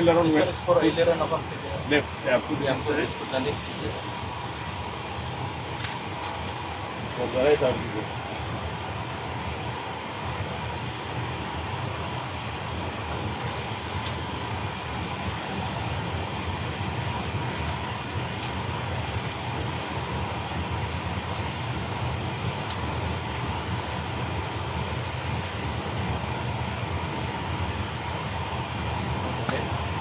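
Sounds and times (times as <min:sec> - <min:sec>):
machinery and airflow drone: 0:00.0 - 0:30.0.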